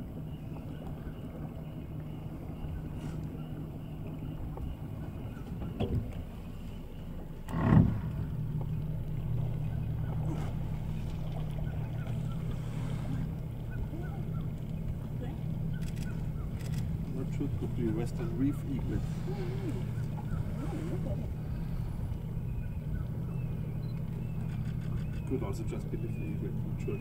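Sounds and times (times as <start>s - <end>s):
boat motor idling: 0.0s - 27.0s.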